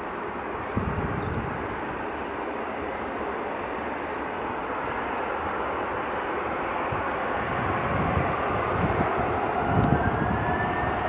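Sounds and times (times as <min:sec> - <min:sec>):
jet engines rushing: 0:00.0 - 0:11.0.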